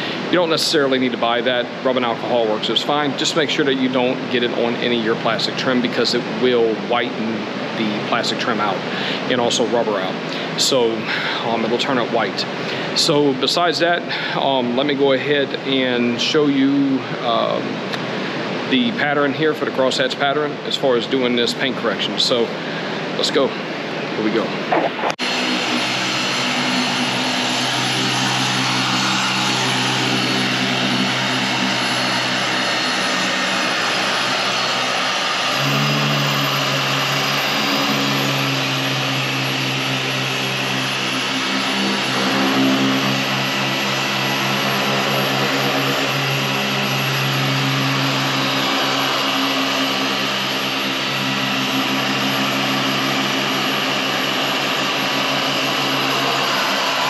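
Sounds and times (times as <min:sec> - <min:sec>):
paint polisher whining: 0:00.0 - 0:19.2, 0:22.3 - 0:57.0.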